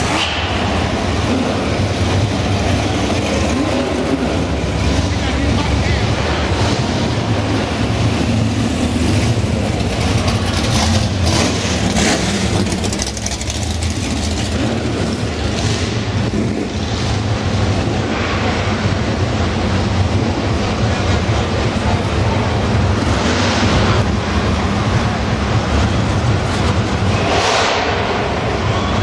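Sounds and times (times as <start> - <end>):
muscle car engines rumbling: 0.0 - 29.0.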